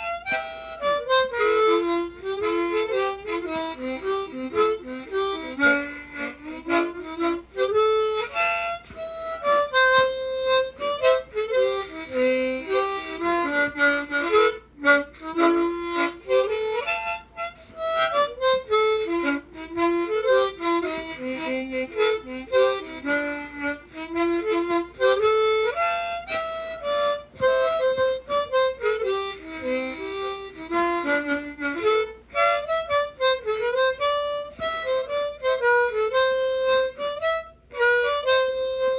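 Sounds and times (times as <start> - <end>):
harmonica playing lively melody: 0.0 - 38.9.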